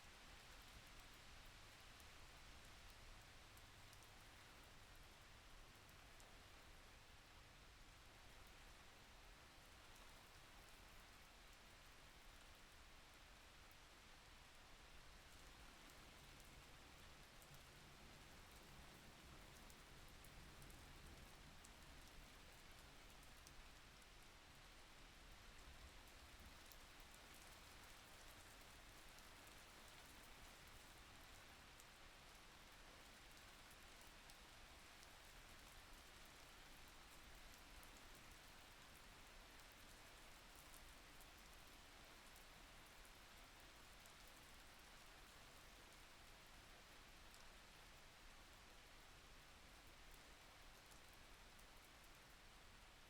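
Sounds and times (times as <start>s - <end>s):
faint steady rain: 0.0s - 53.0s.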